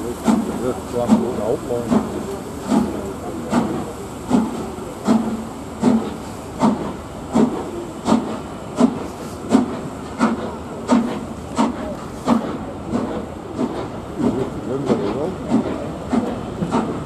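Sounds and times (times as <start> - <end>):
steam locomotive exhaust beats: 0.0 - 17.0
train coaches rumbling: 0.0 - 17.0.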